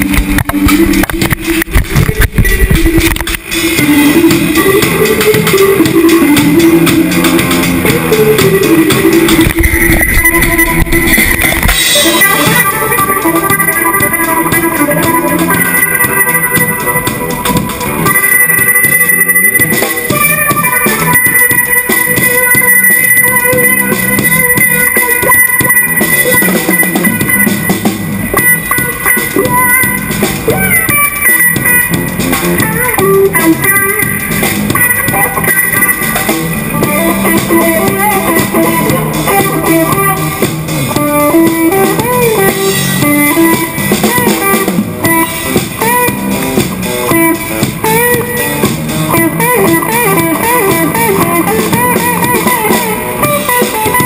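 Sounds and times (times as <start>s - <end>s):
drum kit playing: 0.0s - 54.0s
electric guitar playing: 0.0s - 54.0s.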